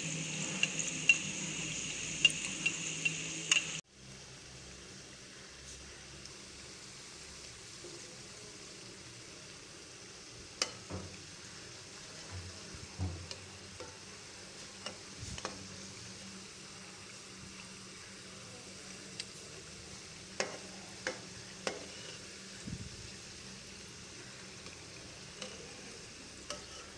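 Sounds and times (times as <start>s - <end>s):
dough deep-frying in oil: 0.0s - 26.9s.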